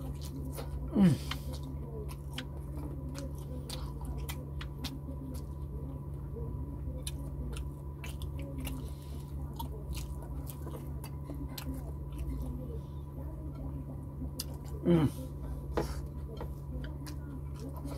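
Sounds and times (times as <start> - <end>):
person chewing: 0.0 - 5.7, 7.0 - 12.6, 14.4 - 17.9.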